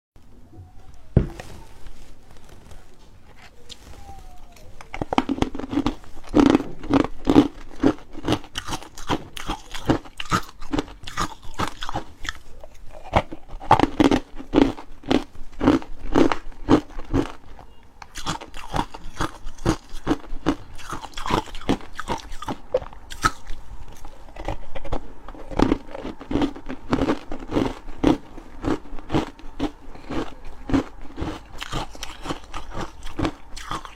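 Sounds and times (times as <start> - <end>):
ice crunching being chewed: 3.3 - 33.9.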